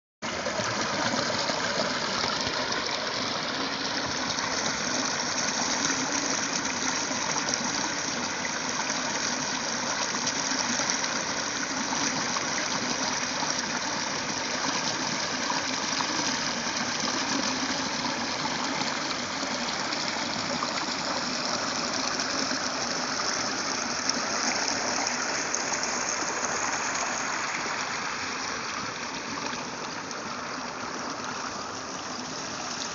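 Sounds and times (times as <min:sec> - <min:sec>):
rushing water: 0:00.2 - 0:32.9.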